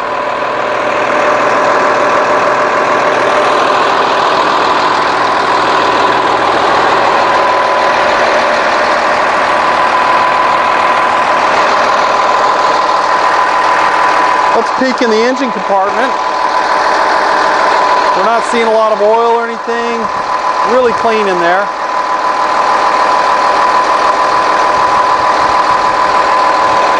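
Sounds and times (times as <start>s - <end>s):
diesel bus engine idling: 0.0s - 26.9s
high whine: 0.0s - 26.9s.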